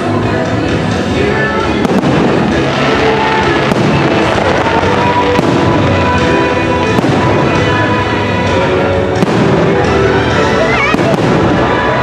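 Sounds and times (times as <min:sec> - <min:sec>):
fireworks bursting with bangs: 0:00.0 - 0:12.0
loud music: 0:00.0 - 0:12.0.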